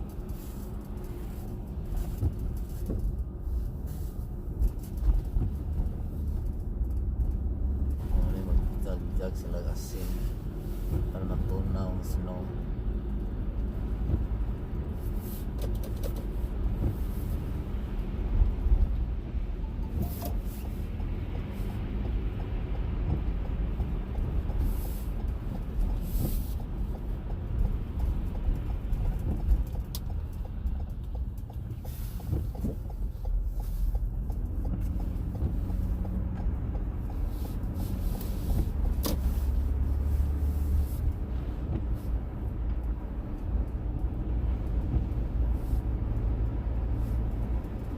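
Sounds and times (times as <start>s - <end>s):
engine and road noise rumble: 0.0s - 47.9s.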